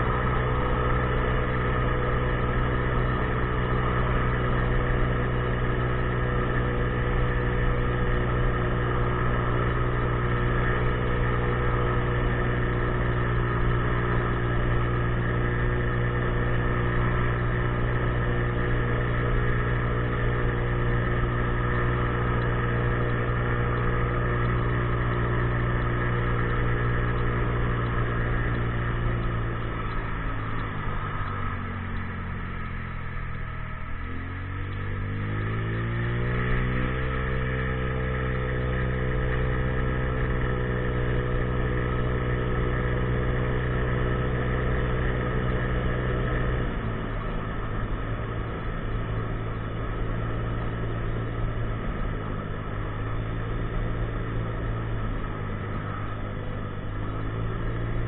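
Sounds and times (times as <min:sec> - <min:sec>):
scooter engine running: 0:00.0 - 0:58.0.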